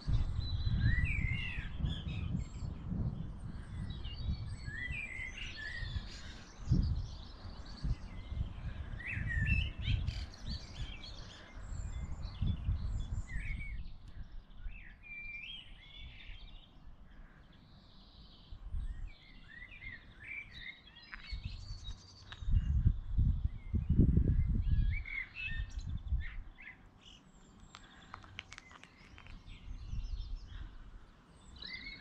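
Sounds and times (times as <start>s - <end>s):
songbirds chirping and singing: 0.0s - 32.0s.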